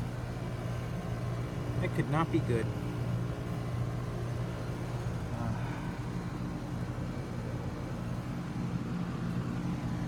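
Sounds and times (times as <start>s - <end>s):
compressor hum: 0.0s - 10.0s.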